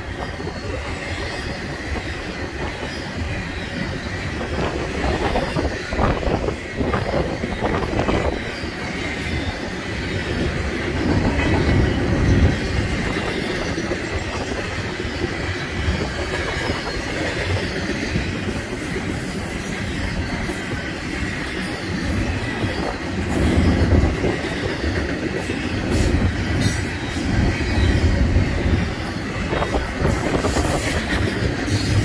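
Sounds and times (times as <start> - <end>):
train wheels rumbling on track: 0.0 - 32.0
clacks over rail joints: 0.2 - 19.4, 20.4 - 32.0.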